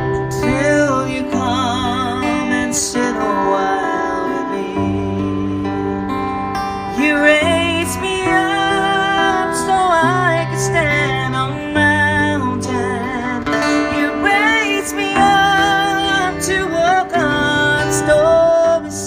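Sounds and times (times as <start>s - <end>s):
strummed acoustic guitar chords: 0.0s - 19.0s
woman singing a slow ballad: 0.0s - 19.0s.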